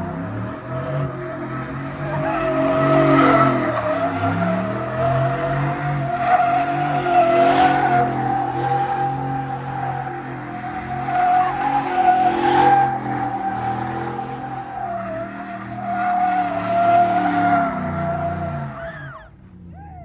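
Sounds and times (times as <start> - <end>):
engine revving: 0.0 - 20.0
tyres squealing on pavement: 0.0 - 20.0.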